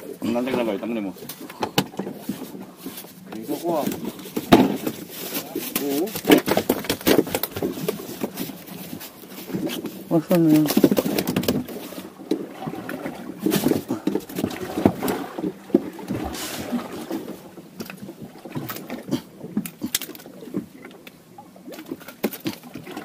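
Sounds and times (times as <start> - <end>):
knocks and clatter on boat: 0.2 - 23.0.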